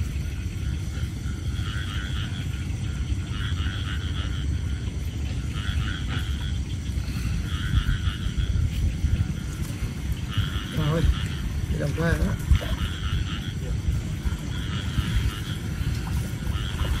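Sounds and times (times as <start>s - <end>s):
frogs calling in chorus: 0.0s - 17.0s
steady low rumble: 0.0s - 17.0s.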